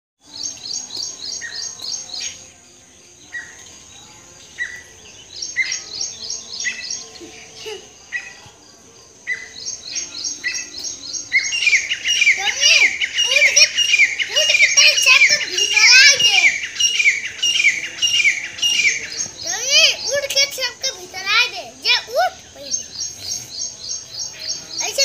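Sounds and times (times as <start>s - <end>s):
birds chirping: 0.2s - 25.0s.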